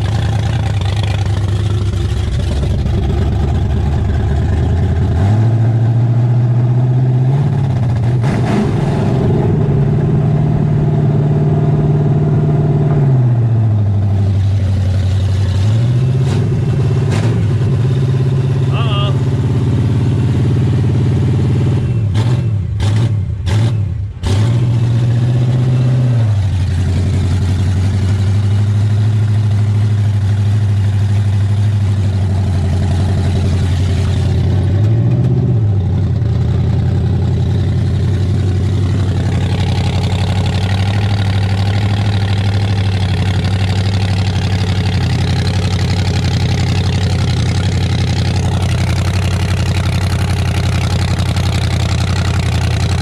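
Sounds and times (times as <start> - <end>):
misfiring truck engine revving and idling: 0.0 - 53.0.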